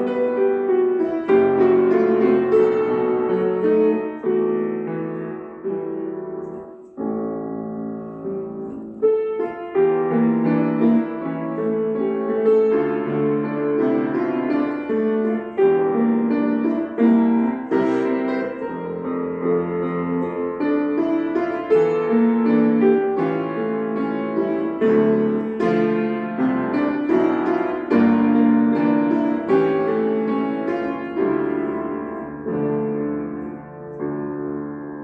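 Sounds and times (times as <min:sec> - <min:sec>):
slow lyrical piano melody: 0:00.0 - 0:35.0.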